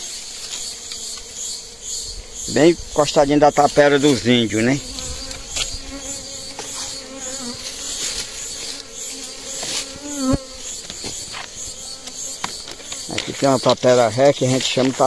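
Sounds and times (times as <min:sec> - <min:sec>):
bee flying close: 0:00.0 - 0:13.5
bees buzzing: 0:00.0 - 0:15.0.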